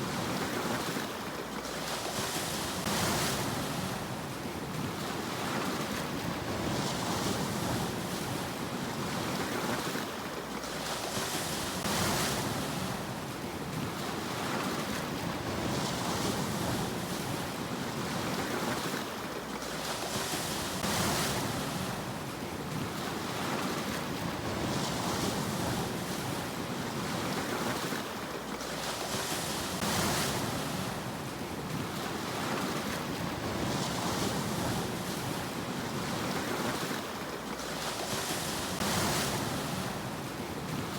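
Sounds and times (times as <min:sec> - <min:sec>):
sea waves washing onto shore: 0:00.0 - 0:40.9.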